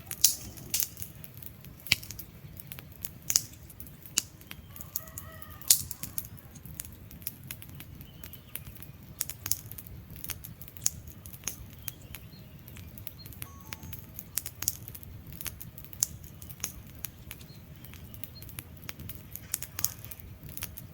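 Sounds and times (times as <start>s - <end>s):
faint whistle from burning wood: 0.0s - 20.9s
low rumble of flame: 0.0s - 20.9s
wood fire crackling and popping: 0.0s - 20.9s.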